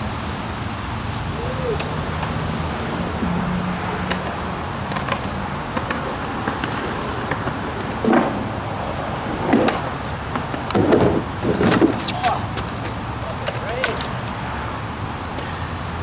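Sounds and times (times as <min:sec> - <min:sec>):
skateboard wheels rolling on pavement: 0:00.0 - 0:16.0.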